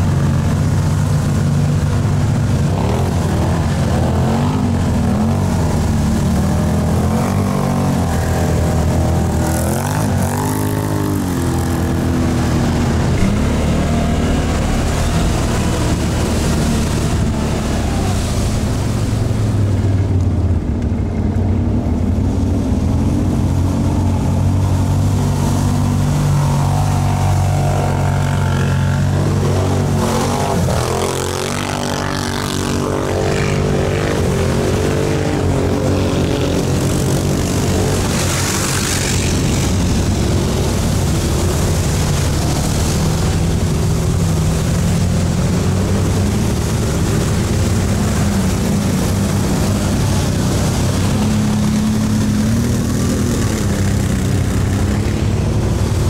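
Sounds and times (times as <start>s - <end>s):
atv engine revving: 0.0s - 20.9s, 22.2s - 56.0s.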